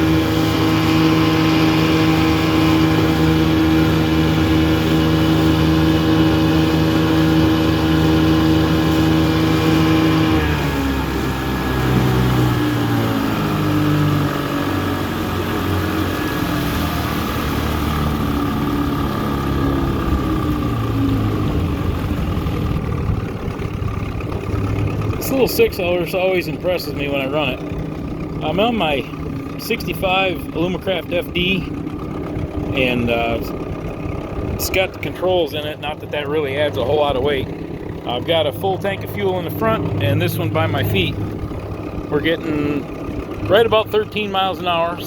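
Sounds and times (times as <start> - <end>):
outboard motor running: 0.0 - 45.0.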